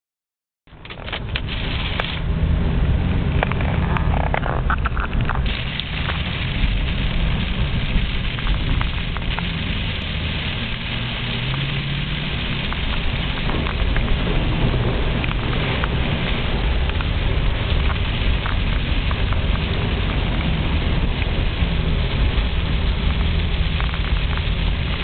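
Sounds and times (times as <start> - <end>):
constant low rumble: 0.7 - 25.0
heavy rain on car roof: 0.7 - 25.0.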